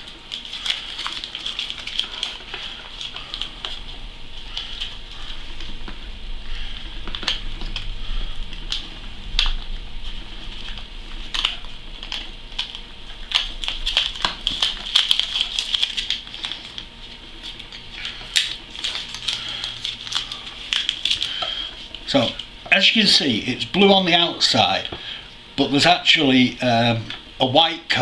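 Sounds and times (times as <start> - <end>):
masking tape peeling and crumpling: 0.0 - 22.5.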